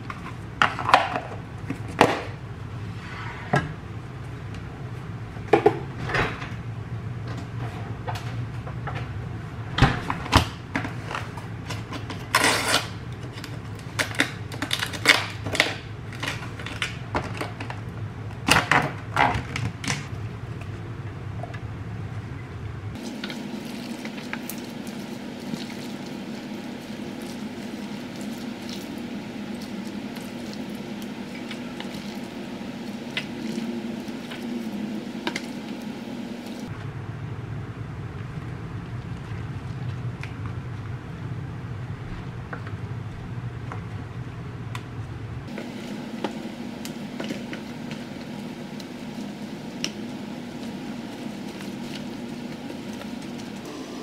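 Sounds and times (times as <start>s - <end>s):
low appliance hum: 0.0s - 54.0s
steady hum: 0.0s - 54.0s.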